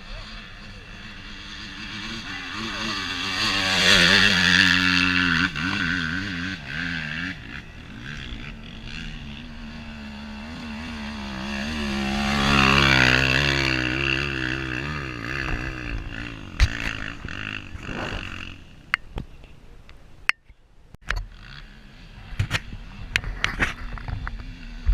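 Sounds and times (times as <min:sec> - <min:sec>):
motorcycle engines revving: 0:00.0 - 0:19.6, 0:21.1 - 0:24.9.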